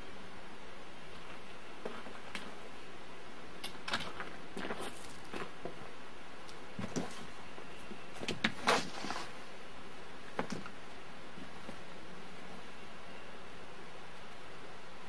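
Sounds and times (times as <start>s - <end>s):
video tape hiss: 0.0s - 15.0s.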